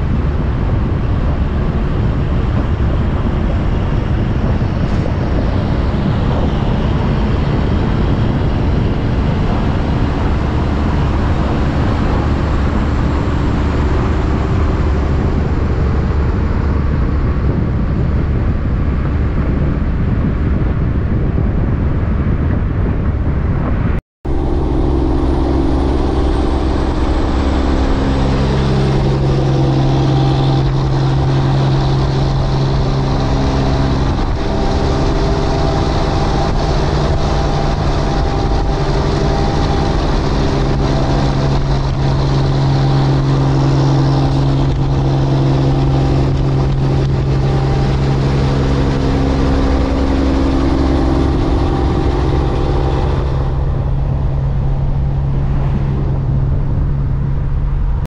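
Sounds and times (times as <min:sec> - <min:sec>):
car engine with loud exhaust: 0:00.0 - 0:58.0.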